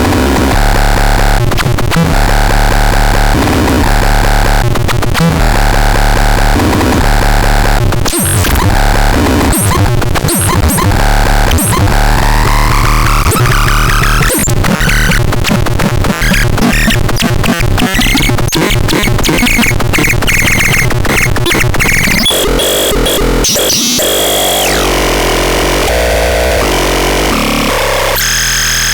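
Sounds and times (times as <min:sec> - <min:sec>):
fast stuttering clicks: 0:01.3 - 0:28.3
harsh synthesizer tones: 0:05.2 - 0:28.9.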